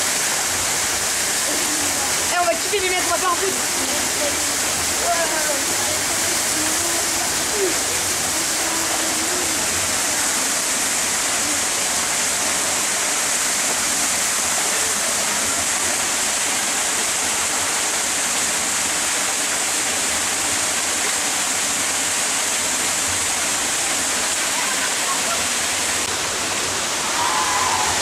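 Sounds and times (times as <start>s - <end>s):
rushing water hiss: 0.0s - 28.0s.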